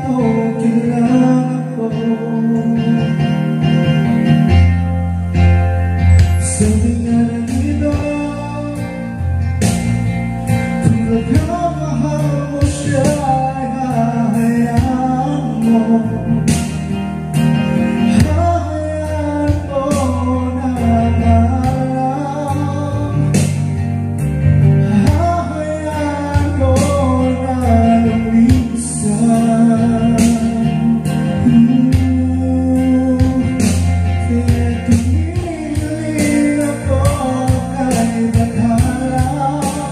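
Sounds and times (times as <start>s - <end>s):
karaoke backing track: 0.0s - 39.9s.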